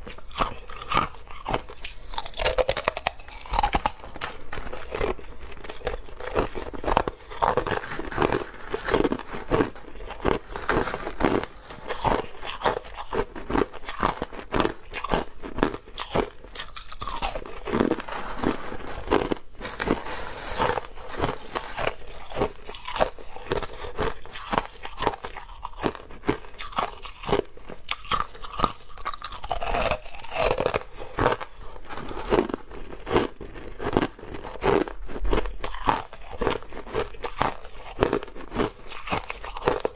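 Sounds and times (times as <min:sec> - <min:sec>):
crushed ice crunching: 0:00.1 - 0:39.9.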